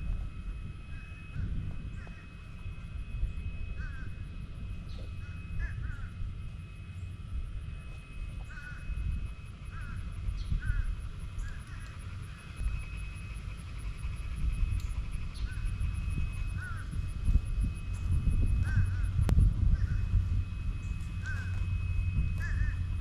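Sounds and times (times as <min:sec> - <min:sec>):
steady low rumble: 0:00.0 - 0:23.0
birds calling: 0:00.8 - 0:23.0.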